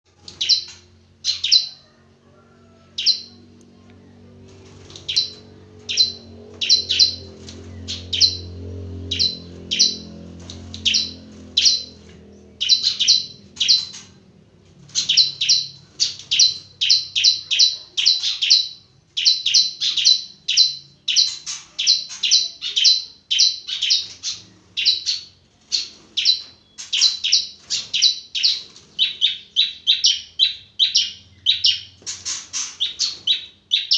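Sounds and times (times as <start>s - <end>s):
bird chirping: 0.2s - 4.2s, 4.8s - 14.2s, 14.9s - 33.9s.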